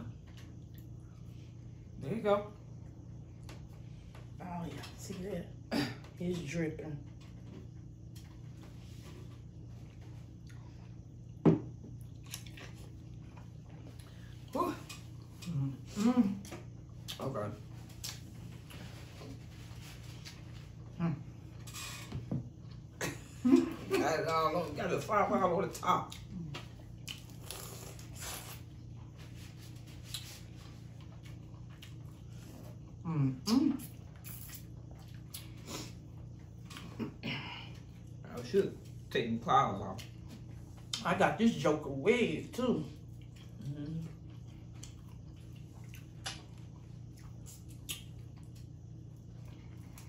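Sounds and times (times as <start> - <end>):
faint low hum: 0.0 - 50.0.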